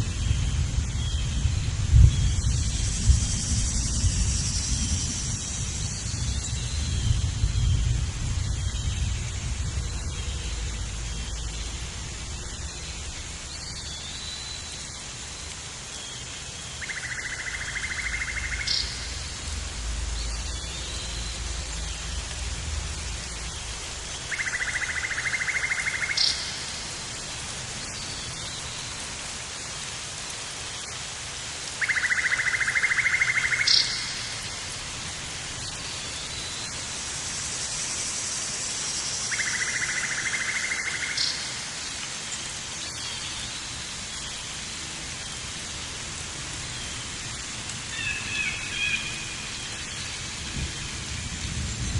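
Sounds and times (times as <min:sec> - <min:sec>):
steady rain-like hiss: 0:00.0 - 0:51.9.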